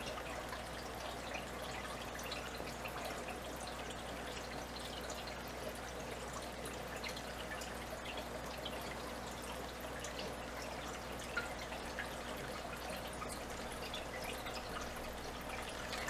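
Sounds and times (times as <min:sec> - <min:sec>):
low steady hum: 0:00.0 - 0:16.0
water trickling and dripping: 0:00.0 - 0:16.0.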